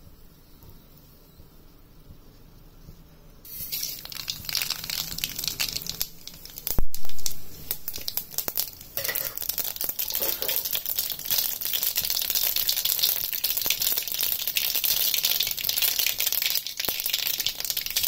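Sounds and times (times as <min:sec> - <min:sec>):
hot oil sizzling and popping: 0:03.5 - 0:18.0.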